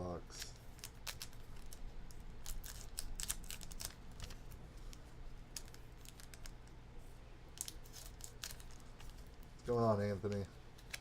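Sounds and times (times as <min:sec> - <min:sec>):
faint low hum: 0:00.0 - 0:11.0
card packs crinkling and clicking: 0:00.3 - 0:06.6, 0:07.6 - 0:11.0.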